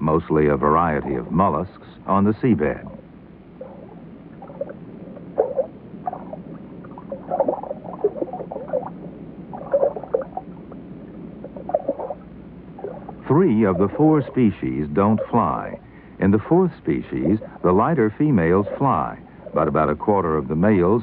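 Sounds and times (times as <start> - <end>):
steady water hiss: 0.0 - 21.0
underwater bubbling and gurgling: 2.5 - 21.0.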